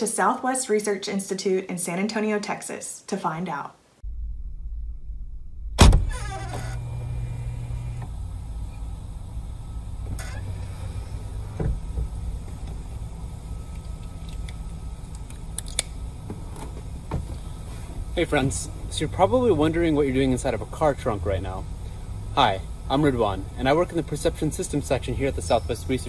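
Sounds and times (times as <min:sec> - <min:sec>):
steady low hum: 0:04.0 - 0:26.0.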